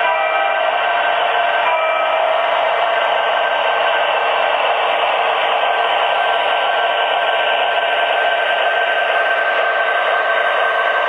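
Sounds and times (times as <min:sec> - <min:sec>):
diesel locomotives running: 0:00.0 - 0:11.0.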